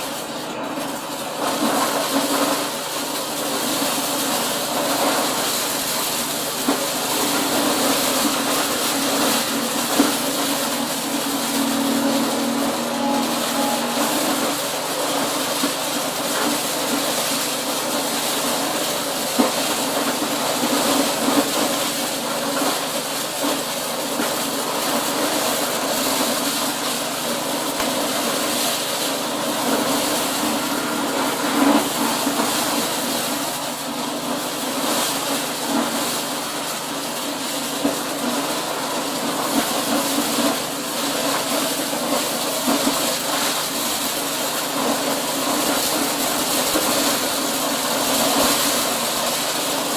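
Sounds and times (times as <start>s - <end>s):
machine droning and clattering: 0.0s - 49.9s.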